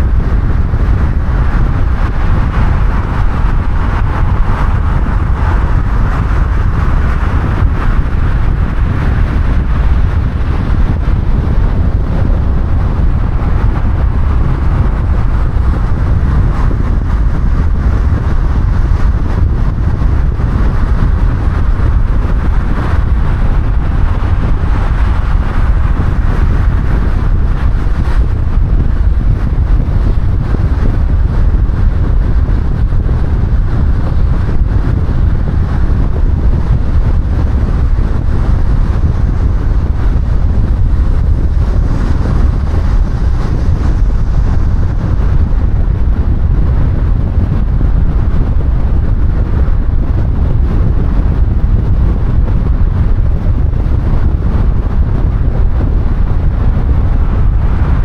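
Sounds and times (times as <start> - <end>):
car road rumble: 0.0 - 58.0.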